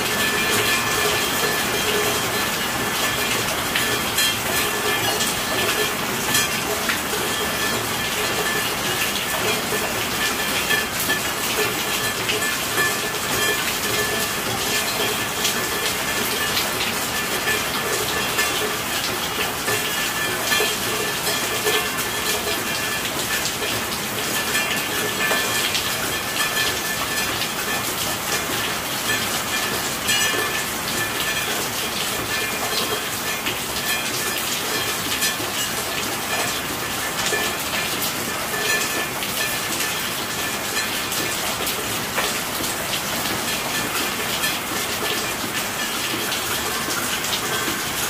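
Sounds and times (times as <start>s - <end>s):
steady rainfall: 0.0s - 48.0s.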